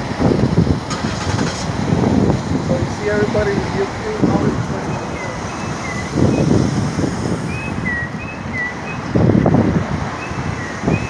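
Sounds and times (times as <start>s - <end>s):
street traffic: 0.0s - 11.0s
wind buffeting microphone: 0.0s - 11.0s.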